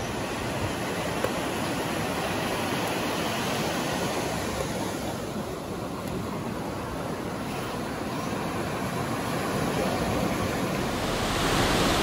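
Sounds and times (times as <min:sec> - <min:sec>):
sea surf breaking on beach: 0:00.2 - 0:12.0.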